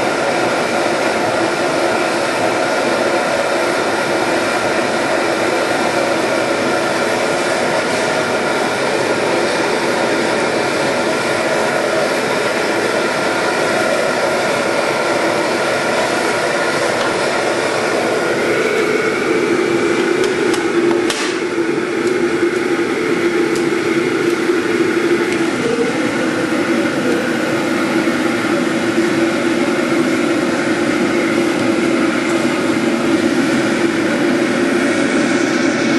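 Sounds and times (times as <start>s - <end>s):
camp stove burner roaring: 0.0s - 35.9s
steady hum: 0.0s - 35.9s.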